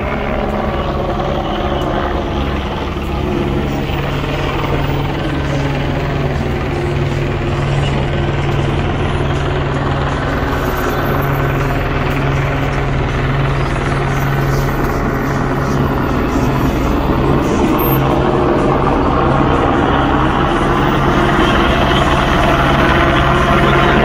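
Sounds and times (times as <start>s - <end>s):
helicopter rotor chopping: 0.0s - 24.0s.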